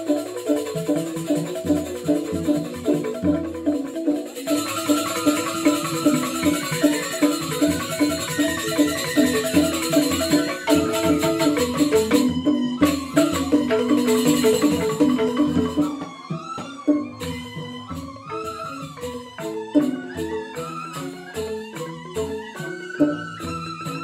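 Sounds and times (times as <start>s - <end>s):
bamboo xylophones playing: 0.0s - 24.0s
percussion strokes: 0.0s - 24.0s.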